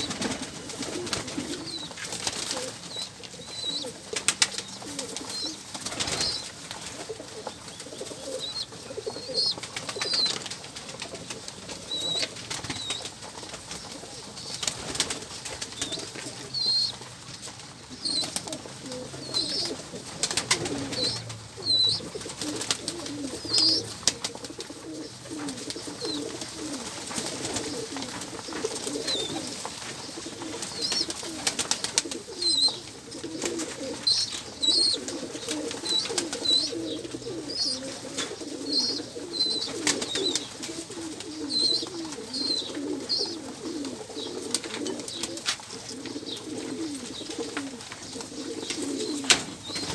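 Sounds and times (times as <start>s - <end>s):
pigeon wings flapping and scuffling: 0.0s - 49.9s
pigeons cooing: 0.0s - 49.9s.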